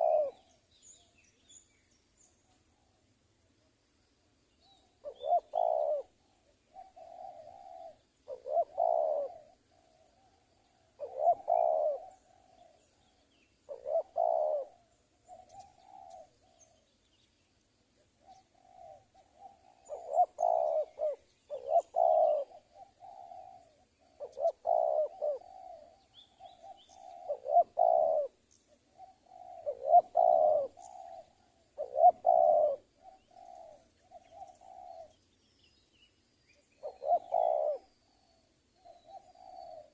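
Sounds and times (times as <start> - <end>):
dove cooing: 0.0 - 1.1, 4.7 - 16.9, 18.0 - 35.3, 36.7 - 39.9.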